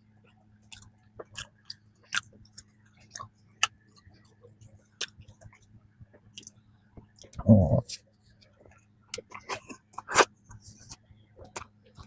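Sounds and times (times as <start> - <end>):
chewing flaky pastry: 0.0 - 12.0.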